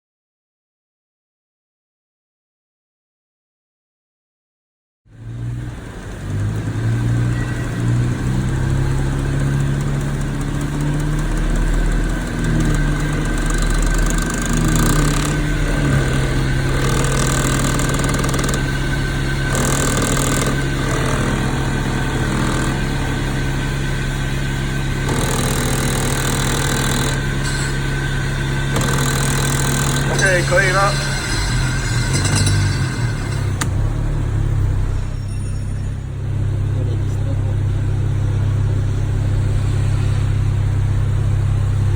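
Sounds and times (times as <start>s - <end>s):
car engine idling: 5.2s - 41.9s.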